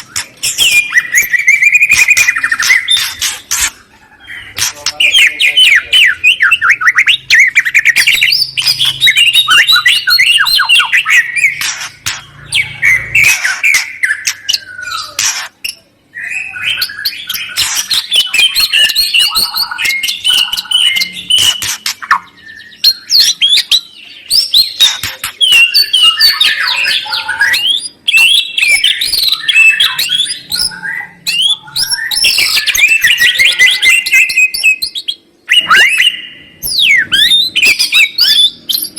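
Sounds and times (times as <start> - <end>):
songbird warbling and chattering: 0.0 - 38.9.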